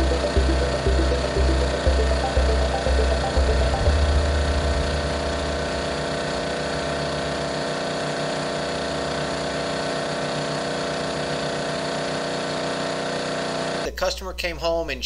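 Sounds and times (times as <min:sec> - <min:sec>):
pressure washer engine drone: 0:00.0 - 0:13.8.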